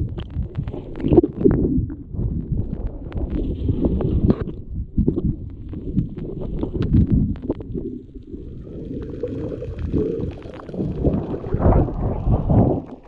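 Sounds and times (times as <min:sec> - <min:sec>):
clicks and knocks underwater: 0:00.0 - 0:13.0
muffled underwater water rush: 0:00.0 - 0:13.0.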